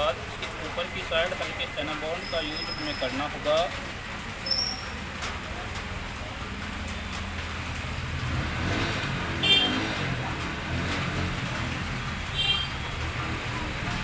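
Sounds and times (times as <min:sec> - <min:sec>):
road traffic rumbling: 0:00.0 - 0:14.0
vehicle engine: 0:00.0 - 0:14.0.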